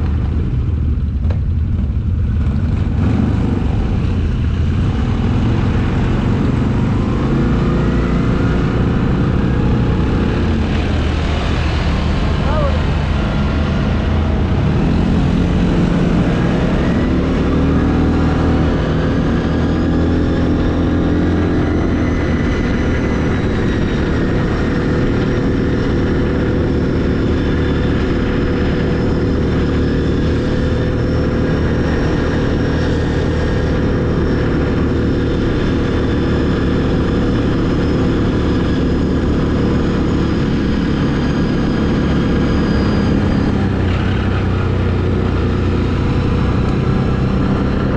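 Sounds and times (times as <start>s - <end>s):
atv engine running under load: 0.0s - 47.9s.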